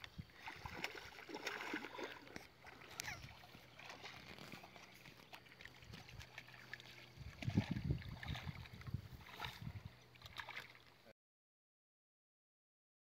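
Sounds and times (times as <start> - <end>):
footsteps on muddy bank: 0.0 - 10.9.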